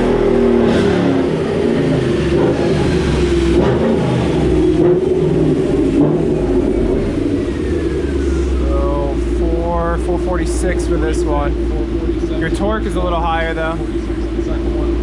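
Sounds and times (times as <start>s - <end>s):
car engine on dyno: 0.0s - 15.0s.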